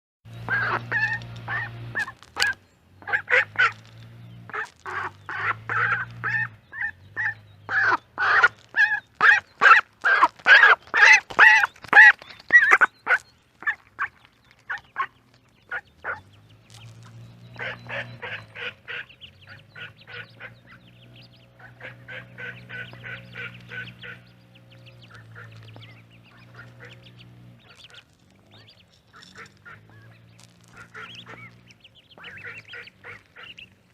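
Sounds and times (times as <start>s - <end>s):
ducks quacking: 0.3s - 33.9s.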